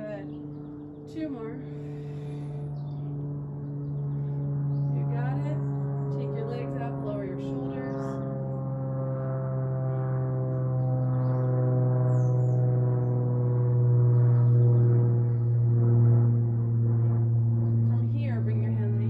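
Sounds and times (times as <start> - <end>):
low drone: 0.0 - 19.0.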